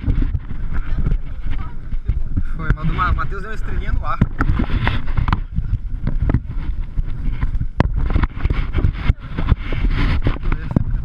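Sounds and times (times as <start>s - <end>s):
low boat engine rumble: 0.0s - 11.0s
wind buffeting microphone: 0.0s - 11.0s.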